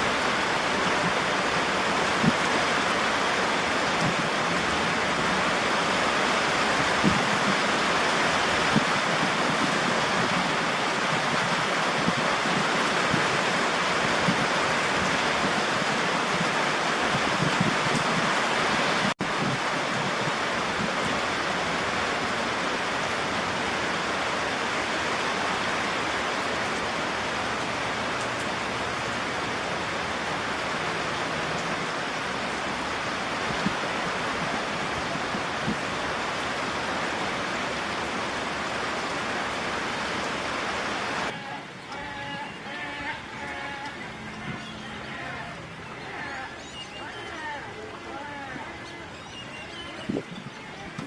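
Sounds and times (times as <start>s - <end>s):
raindrops ticking: 0.0s - 51.0s
steady rain falling: 0.0s - 51.0s.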